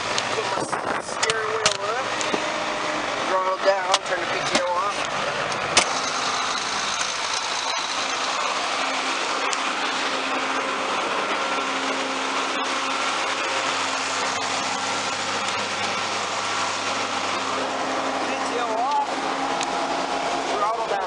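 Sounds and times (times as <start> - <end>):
faint steady whine: 0.0 - 21.0
tractor diesel engine running: 0.0 - 21.0.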